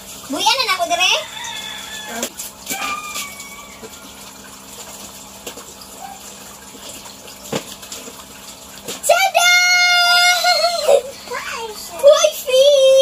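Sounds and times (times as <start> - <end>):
water running into tanks: 0.0 - 13.0.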